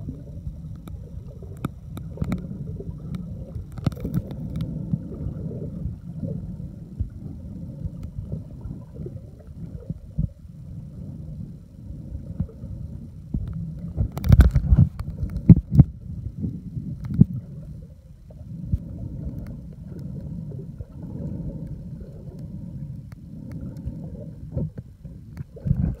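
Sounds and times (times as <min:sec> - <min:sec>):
underwater water rumble and sloshing: 0:00.0 - 0:26.0.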